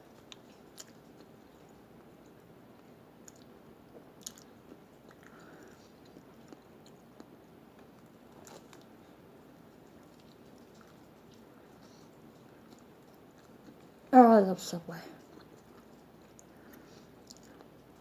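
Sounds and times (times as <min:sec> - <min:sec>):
chewing sandwich: 0:00.0 - 0:14.1, 0:15.2 - 0:18.0.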